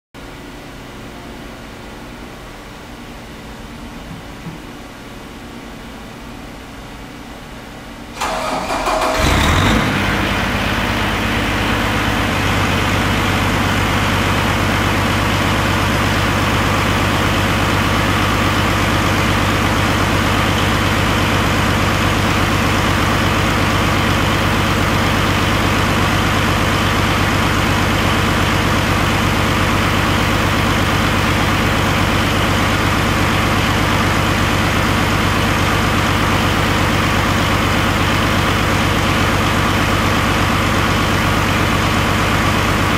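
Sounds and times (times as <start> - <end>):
diesel engine idling: 8.2 - 42.9.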